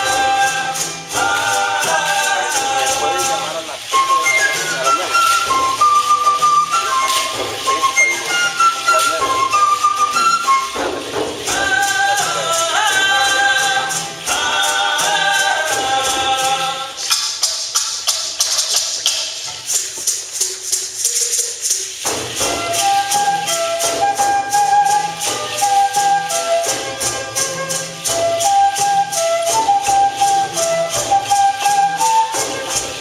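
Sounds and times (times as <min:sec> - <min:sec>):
wind instrument melody: 0:00.0 - 0:17.2, 0:21.2 - 0:33.0
shaken rattles: 0:00.0 - 0:33.0.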